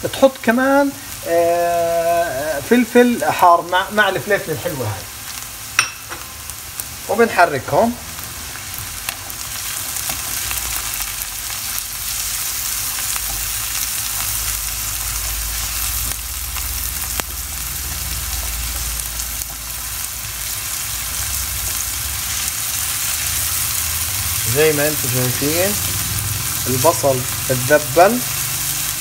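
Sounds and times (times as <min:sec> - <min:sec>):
vegetables sizzling in frying pan: 0:00.0 - 0:29.0.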